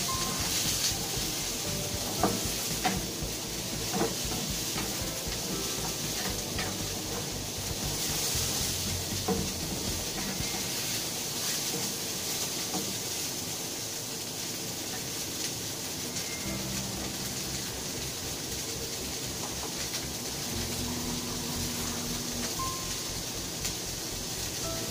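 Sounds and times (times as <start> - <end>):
green beans sizzling in pan: 0.0 - 24.9.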